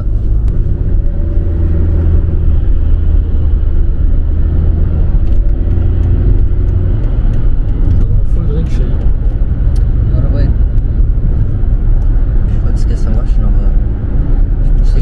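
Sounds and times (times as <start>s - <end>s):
car cabin engine and road rumble: 0.0s - 15.0s.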